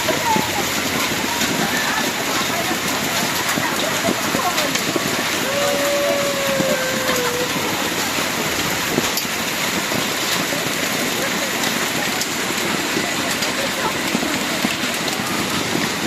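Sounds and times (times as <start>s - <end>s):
hailstones clattering: 0.0s - 16.0s.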